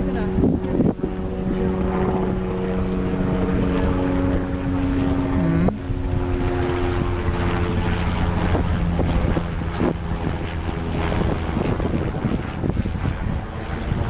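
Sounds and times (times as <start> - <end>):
helicopter engine whine: 0.0 - 14.0
helicopter rotor beating: 0.0 - 14.0.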